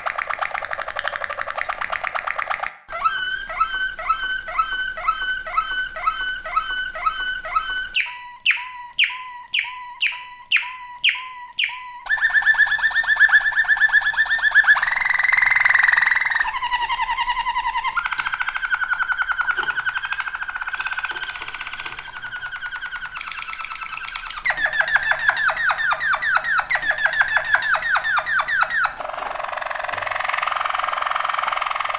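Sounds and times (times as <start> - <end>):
canary singing: 0.0 - 31.9.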